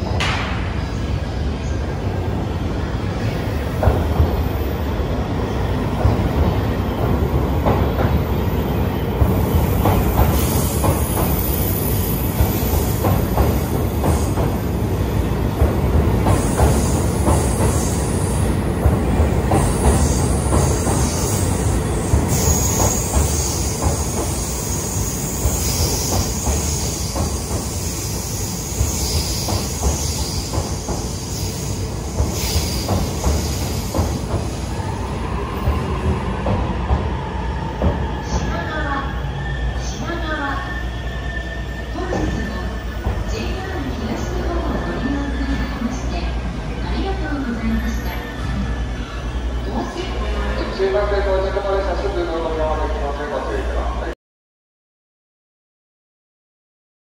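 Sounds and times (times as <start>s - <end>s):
train wheels rumbling: 0.0s - 52.8s.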